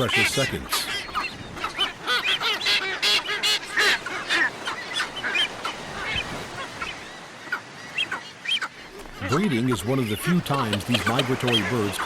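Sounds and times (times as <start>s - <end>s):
flock of terns calling: 0.0s - 12.0s.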